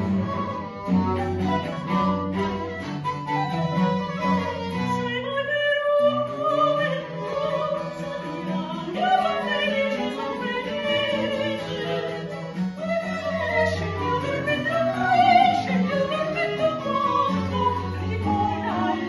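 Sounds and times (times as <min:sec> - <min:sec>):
baroque chamber ensemble: 0:00.0 - 0:19.0
soprano singing: 0:00.0 - 0:19.0.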